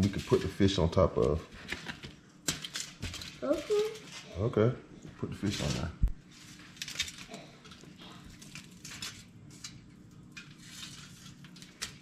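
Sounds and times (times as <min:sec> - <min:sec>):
aluminum foil crinkling: 0:00.0 - 0:04.4, 0:05.3 - 0:12.0.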